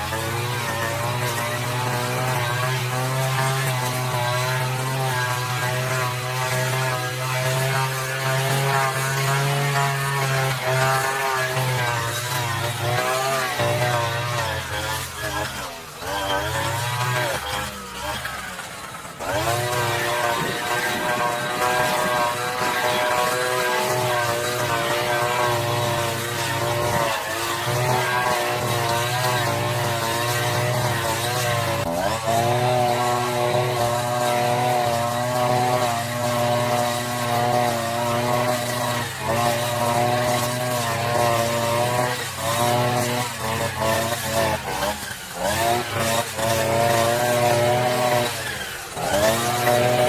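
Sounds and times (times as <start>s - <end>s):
brush cutter engine running: 0.0s - 50.0s.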